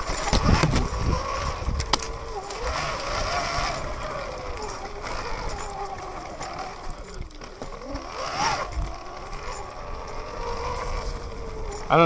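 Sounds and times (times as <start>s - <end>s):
bike knocking over rough ground: 0.0s - 12.0s
electric motor whining: 0.0s - 12.0s.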